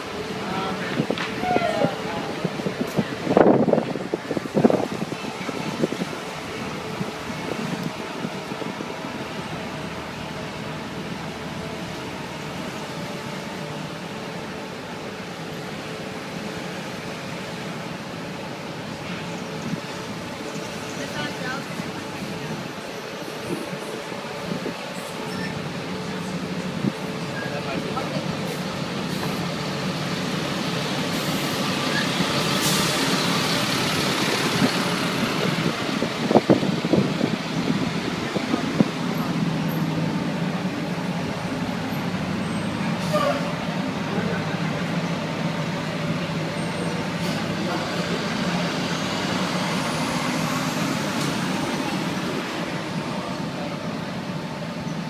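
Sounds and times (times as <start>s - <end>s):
street noise: 0.0s - 55.0s
wind and road noise: 0.0s - 55.0s.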